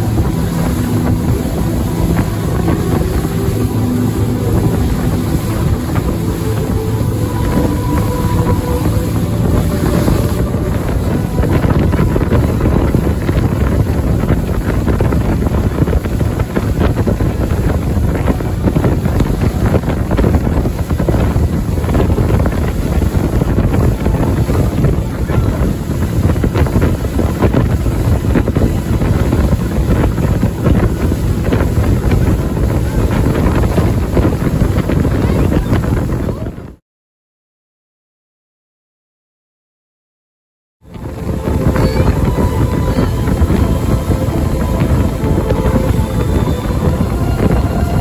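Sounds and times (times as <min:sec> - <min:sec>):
outboard engine drone: 0:00.0 - 0:36.8, 0:40.8 - 0:48.0
water rushing along hull: 0:00.0 - 0:36.8, 0:40.8 - 0:48.0
wind buffeting microphone: 0:00.0 - 0:36.8, 0:40.8 - 0:48.0.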